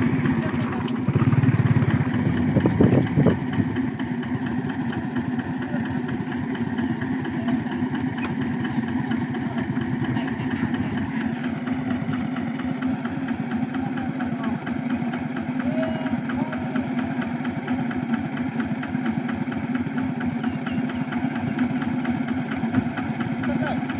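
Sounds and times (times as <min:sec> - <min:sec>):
hand tractor engine idling: 0:00.0 - 0:23.9.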